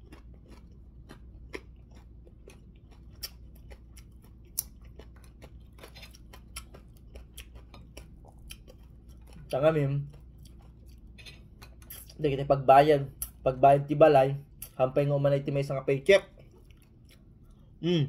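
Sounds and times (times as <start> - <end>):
man chewing food: 0.0 - 17.8
steady low hum: 0.0 - 18.0.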